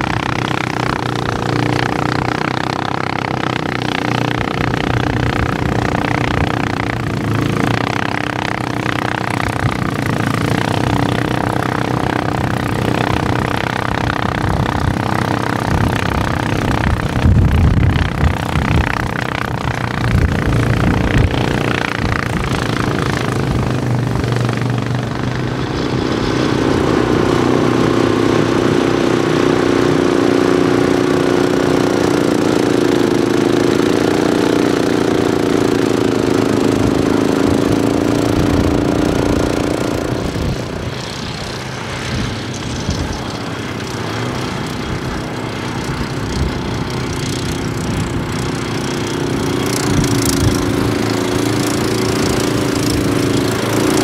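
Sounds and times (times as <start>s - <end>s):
atv engine running: 0.0s - 54.0s
snowblower engine running: 0.0s - 54.0s.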